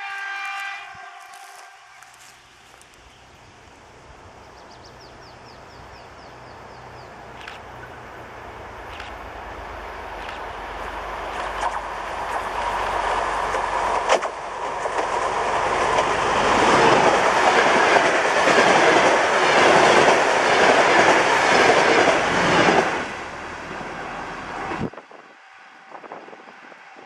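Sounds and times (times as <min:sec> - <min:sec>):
diesel train passing: 0:00.0 - 0:27.0.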